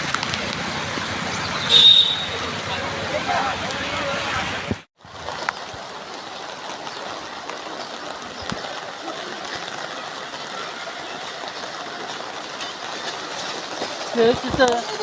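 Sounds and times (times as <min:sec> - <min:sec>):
rushing rain water: 0:00.0 - 0:15.0.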